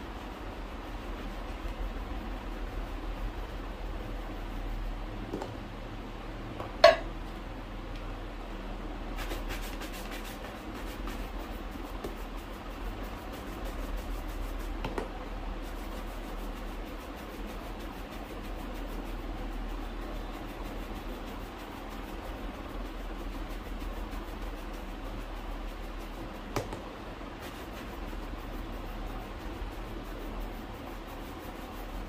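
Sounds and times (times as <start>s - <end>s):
brush scrubbing a shoe: 0.0s - 5.3s, 9.1s - 32.0s.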